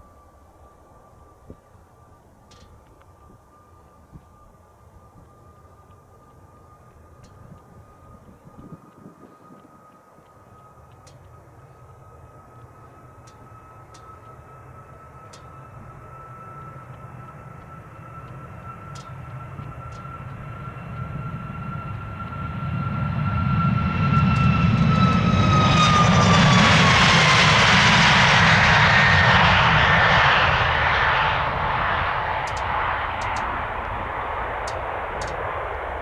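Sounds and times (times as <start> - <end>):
jet engines at takeoff thrust: 0.0 - 36.0.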